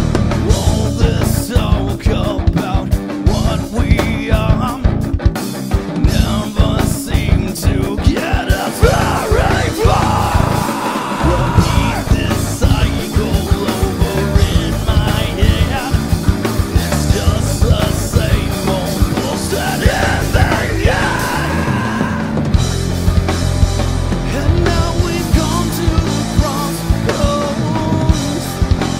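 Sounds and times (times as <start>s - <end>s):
bass guitar: 0.0s - 28.9s
distorted electric guitar: 0.0s - 28.9s
drum kit: 0.0s - 28.9s
singer shouting and singing: 0.4s - 5.1s, 6.0s - 22.7s, 24.1s - 28.7s.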